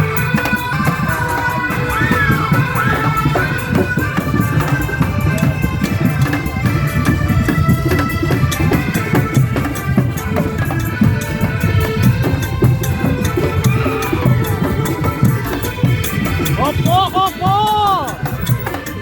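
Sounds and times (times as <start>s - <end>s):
loud parade music: 0.0s - 19.0s.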